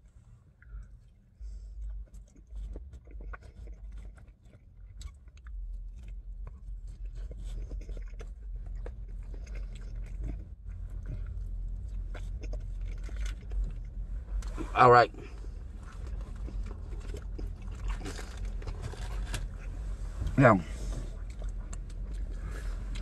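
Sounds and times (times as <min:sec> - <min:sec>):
low steady rumble: 0:00.0 - 0:23.0
person chewing food: 0:00.6 - 0:19.9, 0:20.8 - 0:23.0.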